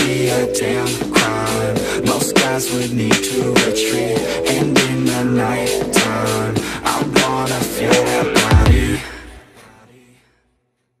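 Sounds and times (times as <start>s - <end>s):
hip-hop music: 0.0s - 10.1s.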